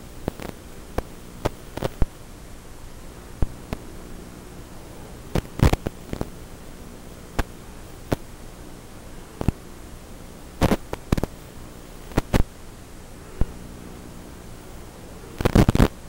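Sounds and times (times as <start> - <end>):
crackling pops: 0.0 - 2.2, 3.3 - 8.7, 9.3 - 9.8, 10.4 - 12.6, 13.4 - 16.0
radio static hiss: 0.0 - 16.0.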